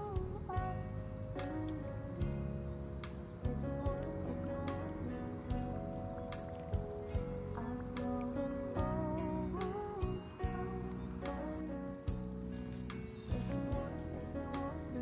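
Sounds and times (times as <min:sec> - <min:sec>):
background music with held notes: 0:00.0 - 0:15.0
insects chirring: 0:00.0 - 0:15.0.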